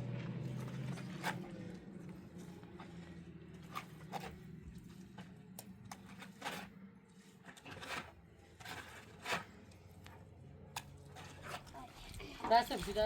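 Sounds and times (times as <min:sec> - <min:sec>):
low steady hum: 0:00.0 - 0:13.0
faint scrapes and knocks: 0:00.2 - 0:13.0.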